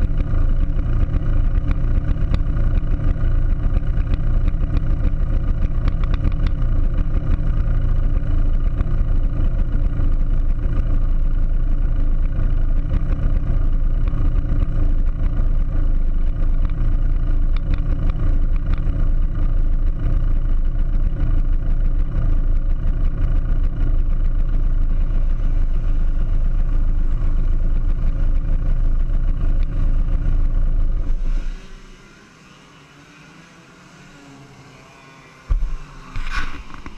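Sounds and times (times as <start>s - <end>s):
kart engine idling: 0.0s - 36.9s.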